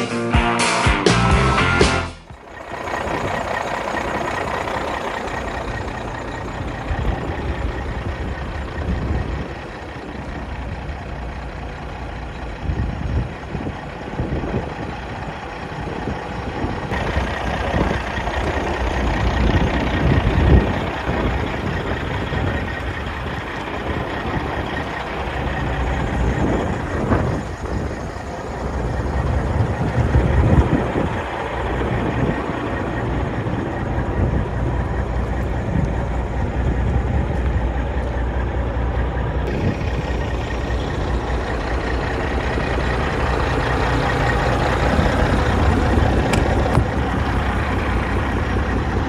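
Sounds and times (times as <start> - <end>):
diesel engine idling: 0.0 - 49.0.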